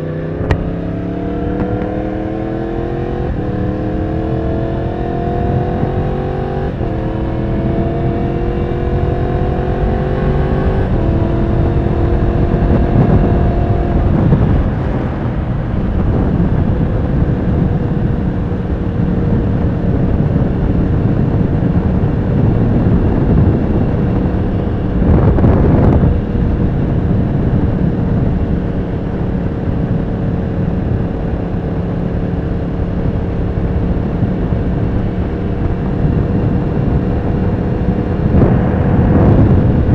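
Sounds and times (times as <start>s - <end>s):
motorcycle engine accelerating: 0.0s - 39.9s
rush of noise: 0.0s - 39.9s
wind noise: 0.0s - 39.9s.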